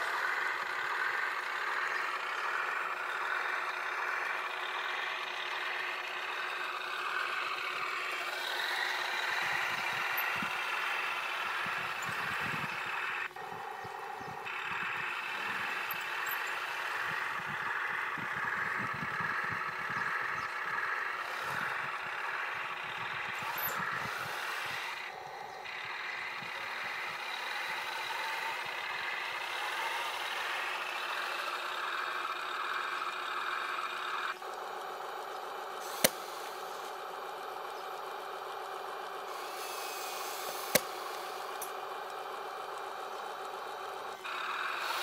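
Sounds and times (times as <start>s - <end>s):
toy tank mechanical whir: 0.0s - 45.0s.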